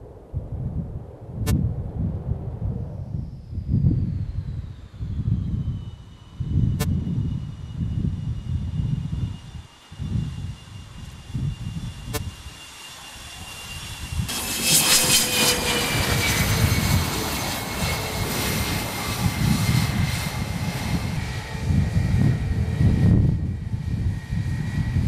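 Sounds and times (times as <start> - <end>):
high turbine whine: 0.0 - 25.0
jet engines running: 1.8 - 25.0.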